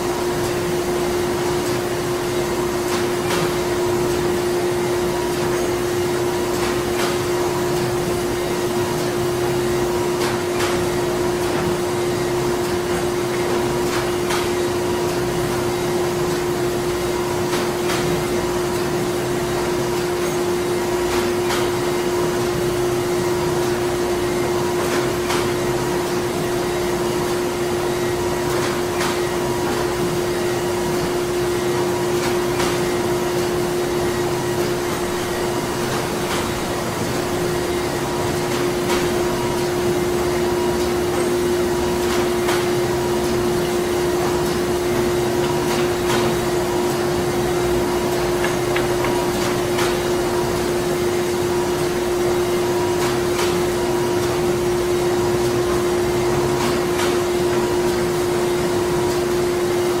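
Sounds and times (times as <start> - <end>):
machinery droning hum: 0.0 - 60.0.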